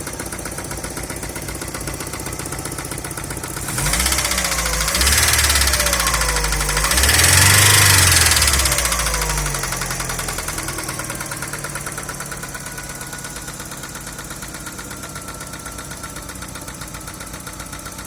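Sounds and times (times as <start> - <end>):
car engine settling to idle: 0.0 - 18.0
engine knock: 0.0 - 18.0.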